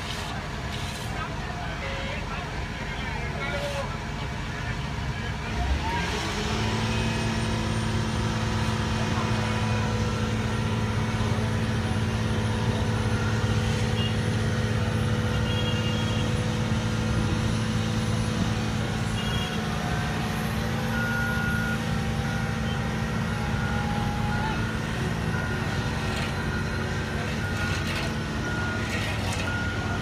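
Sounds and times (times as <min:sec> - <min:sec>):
diesel engine running steadily: 0:00.0 - 0:30.0.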